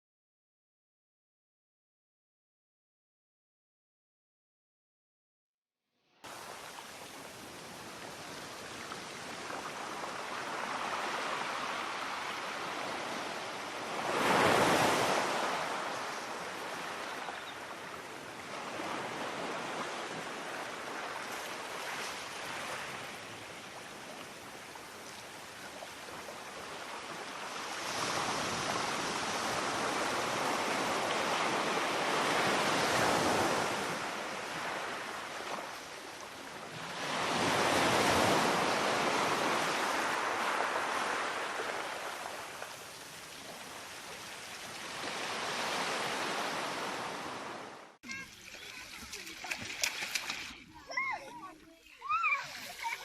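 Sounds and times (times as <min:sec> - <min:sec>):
waves washing onto beach: 0:06.2 - 0:53.0.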